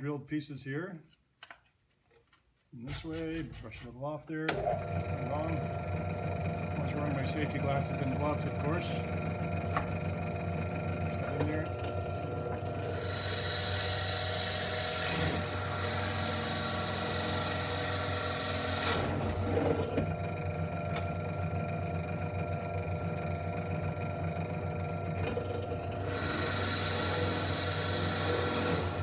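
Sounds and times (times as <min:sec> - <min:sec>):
drill press motor hum: 0:04.5 - 0:29.0.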